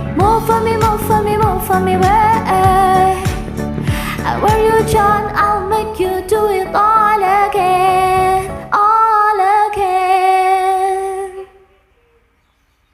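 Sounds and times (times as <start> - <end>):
karaoke backing track: 0.0 - 11.5.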